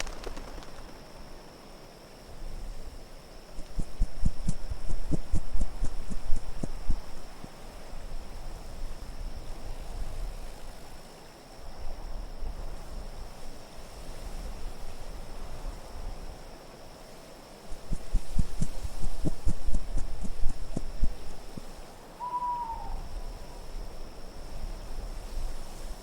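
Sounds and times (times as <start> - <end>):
low wind: 0.0 - 26.0.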